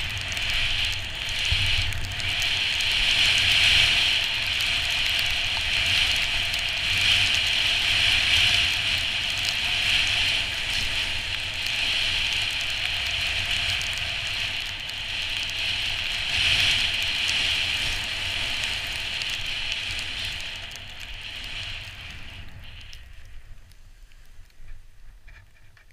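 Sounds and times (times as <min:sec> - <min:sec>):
skis sliding over snow: 0:00.0 - 0:25.9
wind rumble on microphone: 0:00.0 - 0:25.9.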